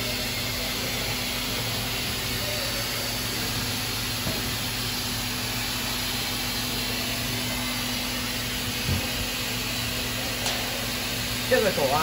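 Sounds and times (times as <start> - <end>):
factory machinery humming: 0.0 - 12.0.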